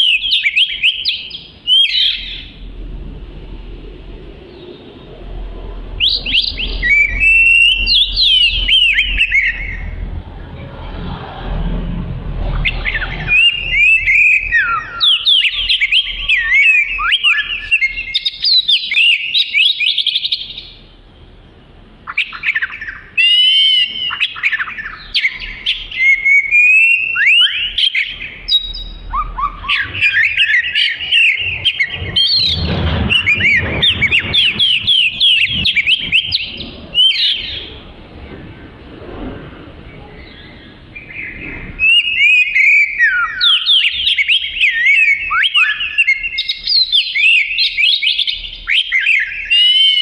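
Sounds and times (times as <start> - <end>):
bird singing whistles and trills: 0.0 - 2.7, 5.9 - 10.1, 12.5 - 21.3, 22.0 - 37.8, 39.9 - 50.0.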